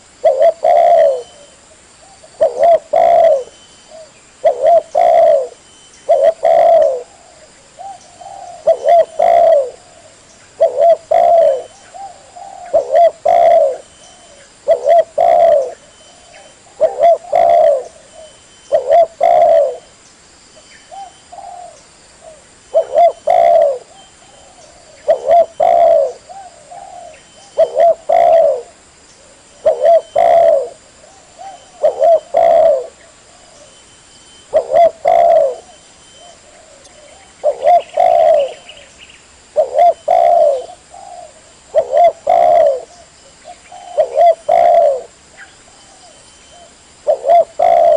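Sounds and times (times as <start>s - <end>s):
dove cooing: 0.0s - 20.0s, 20.9s - 47.9s.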